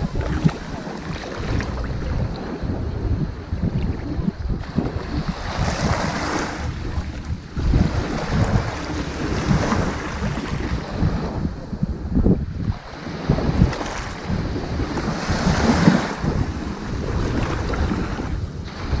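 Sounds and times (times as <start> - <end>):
ocean waves on sandy beach: 0.0 - 19.0
wind buffeting microphone: 0.0 - 19.0.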